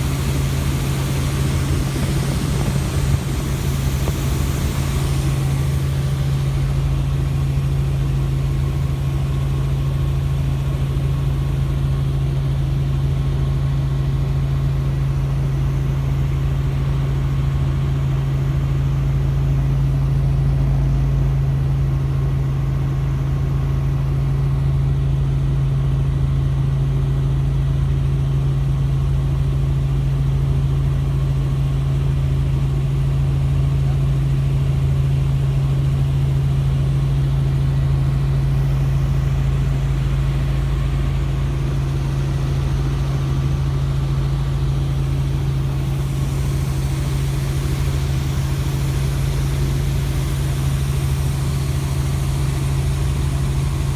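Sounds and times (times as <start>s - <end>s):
helicopter engine and rotor hum: 0.0s - 53.9s.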